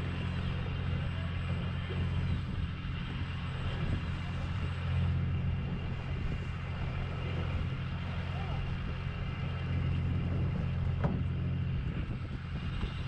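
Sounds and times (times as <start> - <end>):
boat machinery droning: 0.0 - 13.0.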